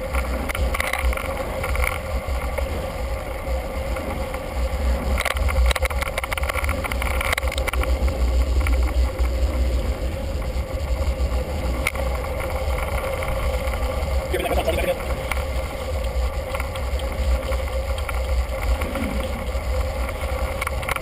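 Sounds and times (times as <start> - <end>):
bicycle clicks and rattles: 0.0 - 21.0
wind buffeting microphone: 0.0 - 21.0.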